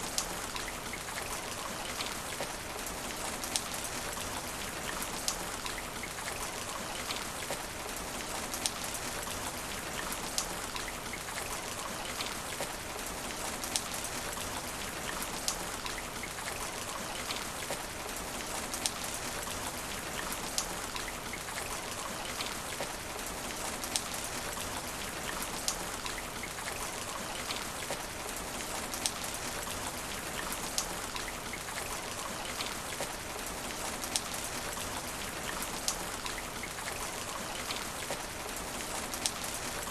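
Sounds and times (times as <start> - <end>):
rain falling on asphalt: 0.0 - 39.9
water drips: 0.0 - 39.9.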